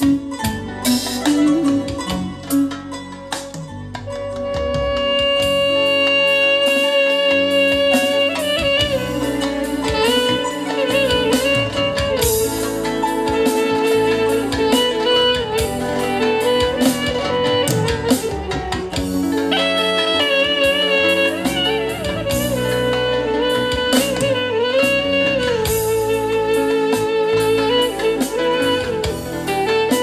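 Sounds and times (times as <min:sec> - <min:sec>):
clarinet melody: 0:00.0 - 0:30.0
live instrumental band music: 0:00.0 - 0:30.0.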